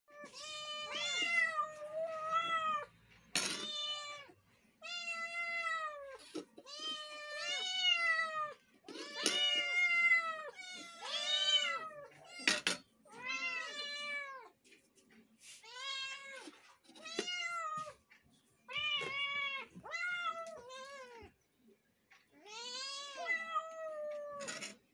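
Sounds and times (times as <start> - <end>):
cats meowing: 0.1 - 14.6, 15.5 - 21.4, 22.3 - 24.8.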